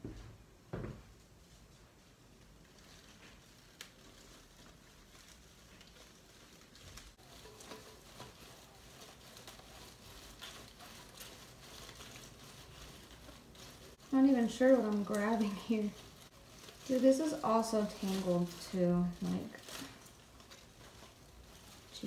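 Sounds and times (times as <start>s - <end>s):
rustling leaves and soil: 1.3s - 22.0s.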